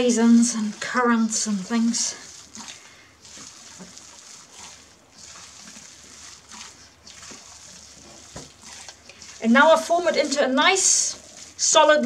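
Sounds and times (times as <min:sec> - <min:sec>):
dough squelching: 0:00.0 - 0:12.0.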